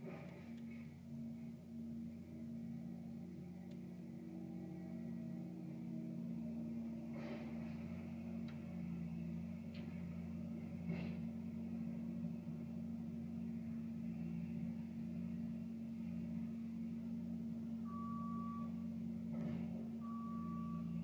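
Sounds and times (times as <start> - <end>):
diesel engines humming: 0.0 - 21.0.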